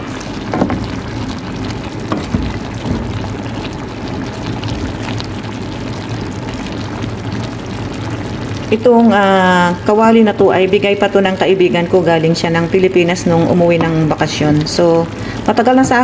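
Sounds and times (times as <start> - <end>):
broth simmering and bubbling: 0.0 - 16.0.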